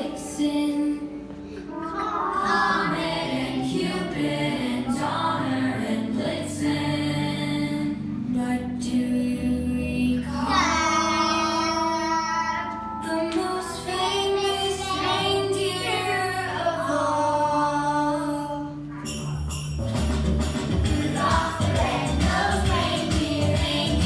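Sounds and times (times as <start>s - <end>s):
children singing together: 0.0s - 8.1s, 8.9s - 18.6s, 21.0s - 24.0s
recorded musical accompaniment: 0.0s - 24.0s.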